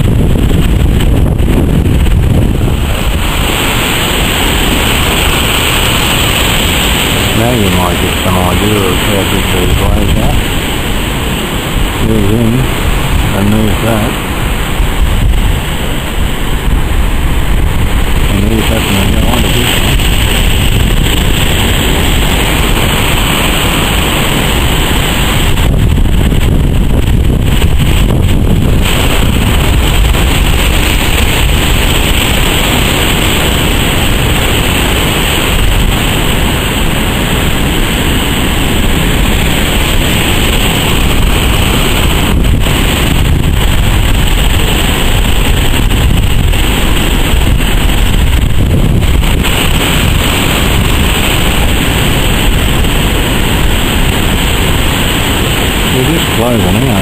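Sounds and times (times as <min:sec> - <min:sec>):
storm surf breaking: 0:00.0 - 0:57.0
wind buffeting microphone: 0:00.0 - 0:57.0.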